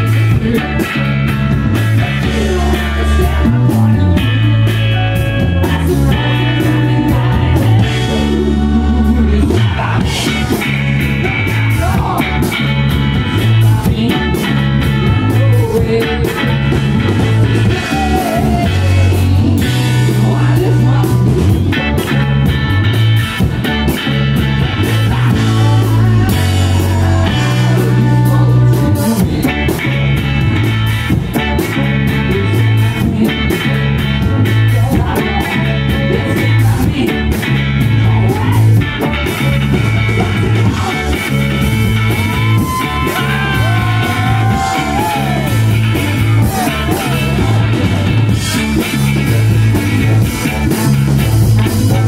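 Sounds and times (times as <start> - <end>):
person singing: 0.0 - 22.5, 23.6 - 52.0
rock band playing: 0.0 - 52.0.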